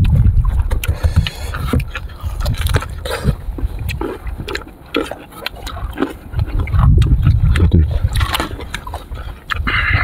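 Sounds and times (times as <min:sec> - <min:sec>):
crunchy chewing and smacking: 0:00.0 - 0:10.0.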